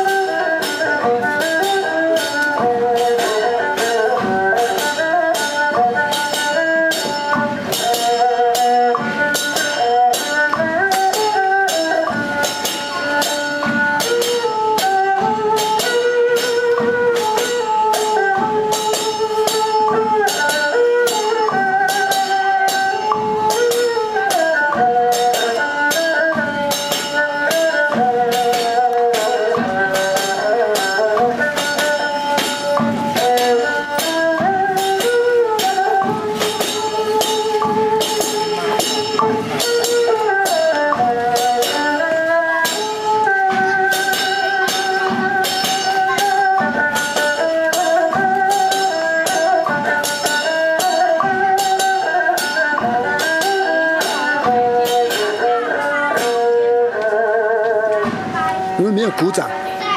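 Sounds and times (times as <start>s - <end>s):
bowed fiddle melody: 0.0s - 59.9s
drum beat: 0.0s - 59.9s.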